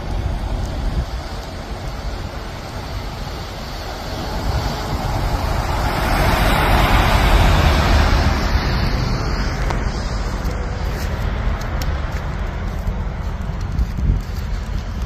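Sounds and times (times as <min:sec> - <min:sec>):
highway traffic: 0:00.0 - 0:15.0
truck passing: 0:00.0 - 0:15.0
wind rumble on microphone: 0:00.0 - 0:15.0.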